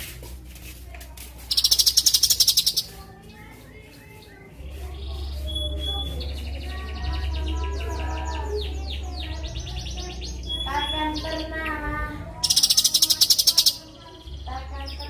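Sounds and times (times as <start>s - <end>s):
bird high chirps: 1.4s - 15.0s
bird lower notes: 1.4s - 15.0s.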